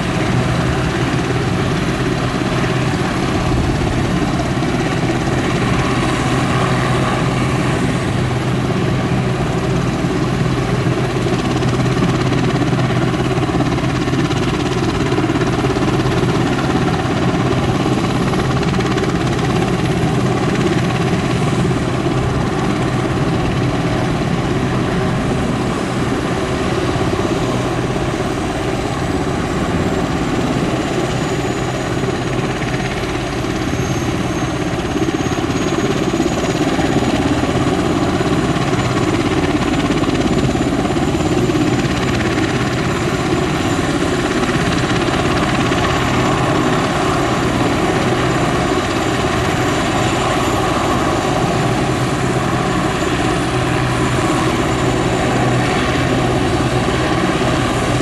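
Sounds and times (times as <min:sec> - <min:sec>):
helicopter engines and rotor: 0:00.0 - 0:58.0.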